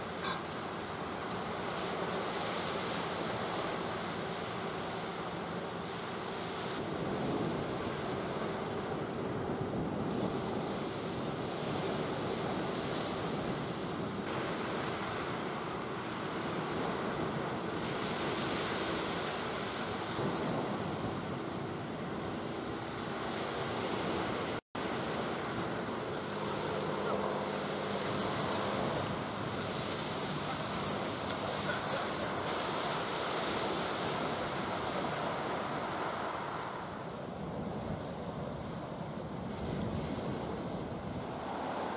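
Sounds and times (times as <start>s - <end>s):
waves washing: 0.0s - 41.9s
wind buffeting microphone: 0.0s - 41.9s.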